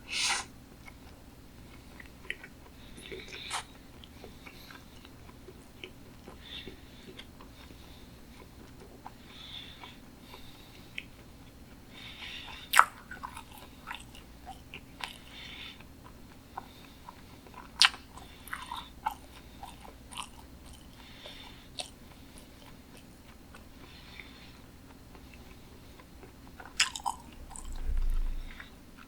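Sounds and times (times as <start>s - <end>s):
wet chewing: 0.8s - 29.0s.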